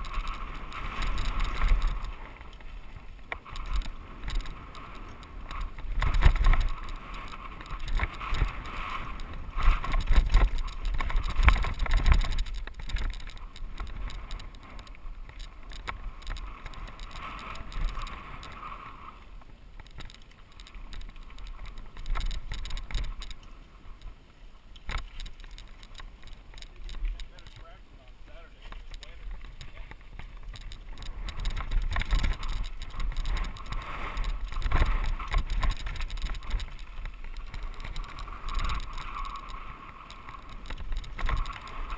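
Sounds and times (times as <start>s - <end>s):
bike clattering over rocks: 0.0s - 18.6s, 19.7s - 23.4s, 28.6s - 41.9s
tyre noise on dirt: 0.0s - 23.4s, 24.8s - 41.9s
low wind rumble: 0.0s - 41.9s.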